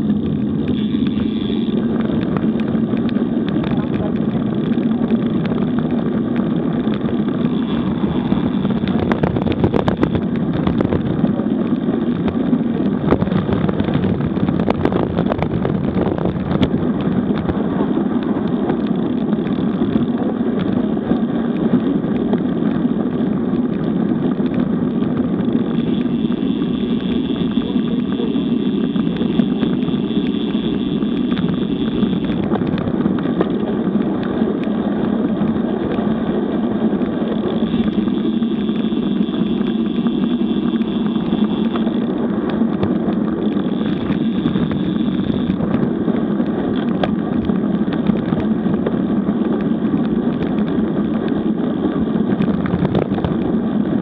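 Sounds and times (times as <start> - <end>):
bicycle tyres on road: 0.0 - 54.0
wind rushing: 0.0 - 54.0.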